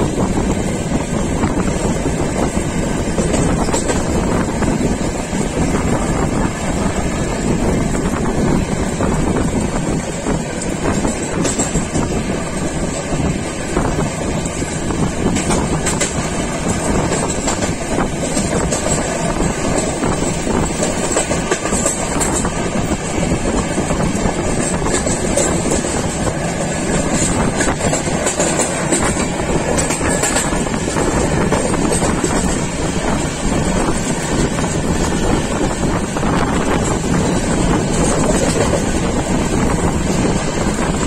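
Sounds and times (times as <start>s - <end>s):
train wheels on rails: 0.0s - 41.0s
wind rushing: 0.0s - 41.0s.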